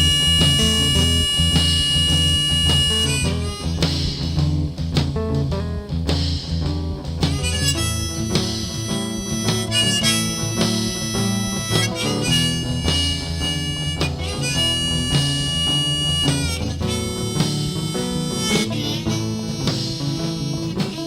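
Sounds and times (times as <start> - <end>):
blues harmonica: 0.0 - 21.0
guitar accompaniment: 0.0 - 21.0.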